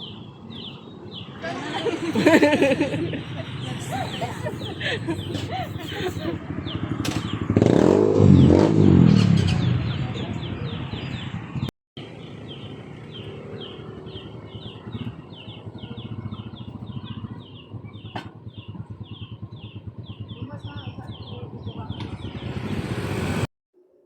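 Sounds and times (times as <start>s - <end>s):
street background noise: 0.0s - 23.5s
vehicle engine passing: 0.6s - 23.5s.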